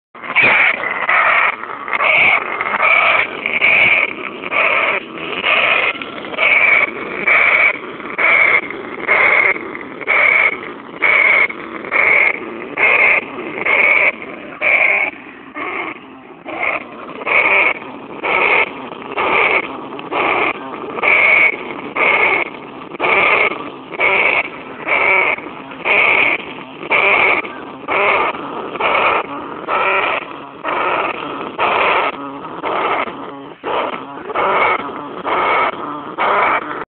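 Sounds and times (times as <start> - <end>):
animal calling: 0.2 - 36.9.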